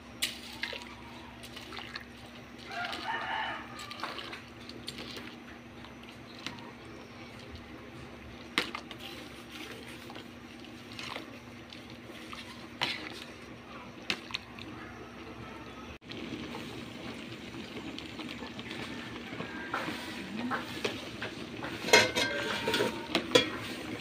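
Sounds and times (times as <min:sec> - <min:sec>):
water bubbling in a pot: 0:00.0 - 0:24.0.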